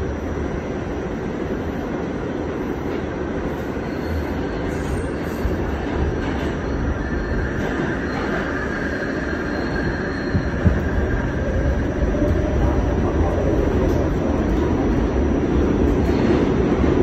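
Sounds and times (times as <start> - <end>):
subway train rumbling and rattling: 0.0 - 17.0.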